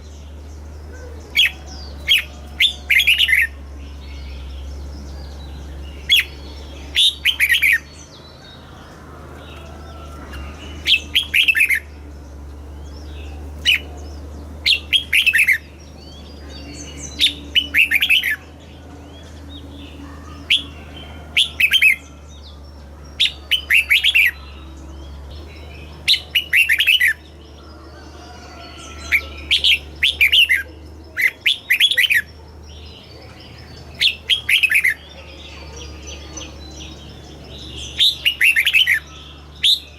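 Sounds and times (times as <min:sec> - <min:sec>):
bird singing: 0:00.0 - 0:39.9
steady low hum: 0:00.0 - 0:39.9.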